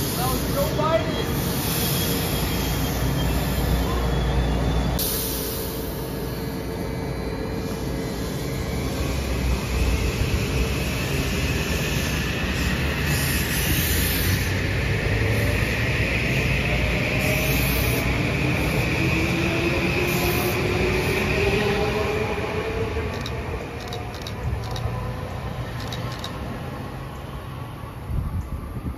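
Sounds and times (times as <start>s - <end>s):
train hiss: 0.0s - 24.9s
train wheels rumbling on rail: 0.0s - 28.9s.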